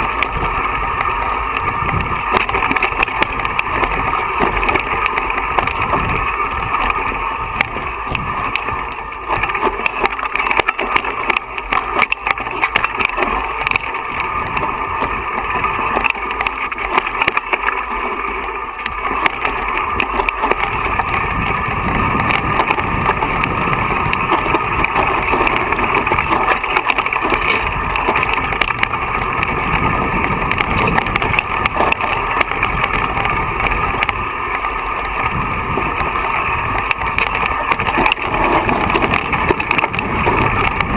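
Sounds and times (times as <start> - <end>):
bike rattling and knocking: 0.0 - 40.9
tyres crunching over gravel: 0.0 - 40.9
wind rumble on microphone: 0.0 - 40.9.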